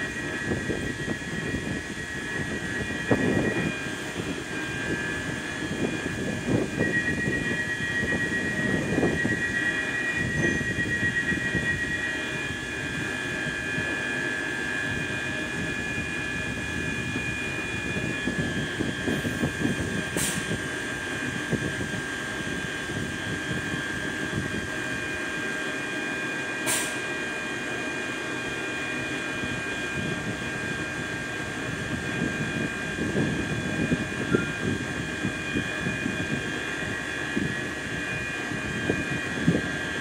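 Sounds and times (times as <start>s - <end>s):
train equipment high whine: 0.0s - 40.0s.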